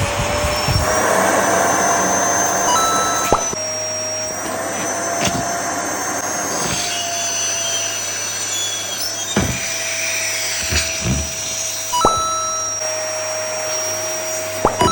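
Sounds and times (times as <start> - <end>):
vacuum cleaner running: 0.0 - 14.9.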